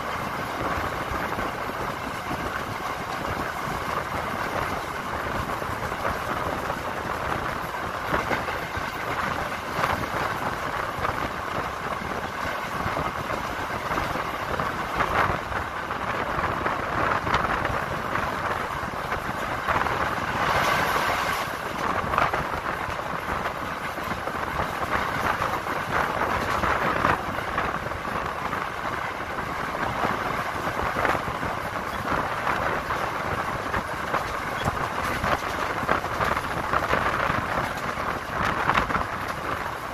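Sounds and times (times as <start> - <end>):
train rattling along track: 0.0 - 39.9.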